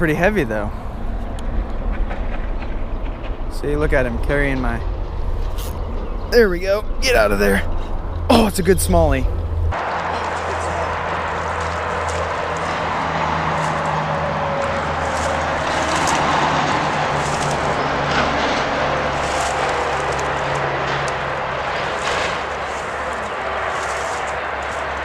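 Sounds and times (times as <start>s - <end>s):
distant engine hum: 0.0s - 25.0s.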